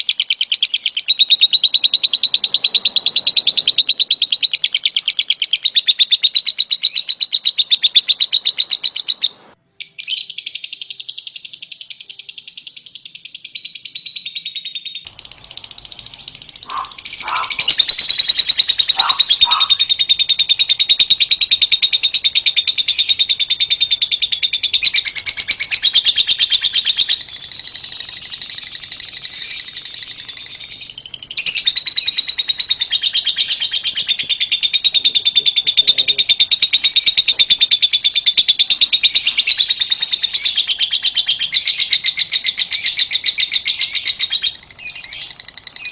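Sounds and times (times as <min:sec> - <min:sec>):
lovebird chattering: 0:00.0 - 0:09.4, 0:15.1 - 0:45.9.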